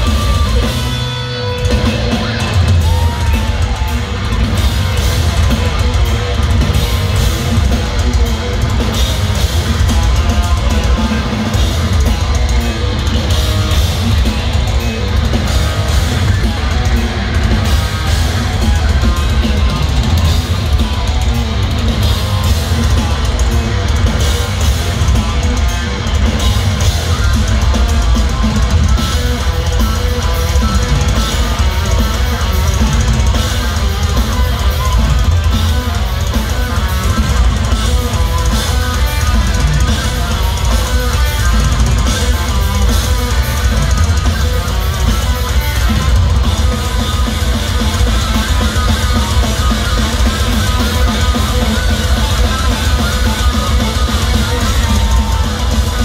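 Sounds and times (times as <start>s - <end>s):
bass guitar: 0.0s - 56.0s
distorted electric guitars: 0.0s - 56.0s
pounding drum kit: 0.0s - 56.0s.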